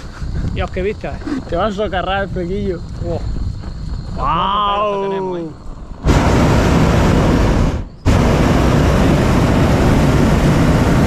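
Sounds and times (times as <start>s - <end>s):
propane burner firing: 0.3s - 11.0s.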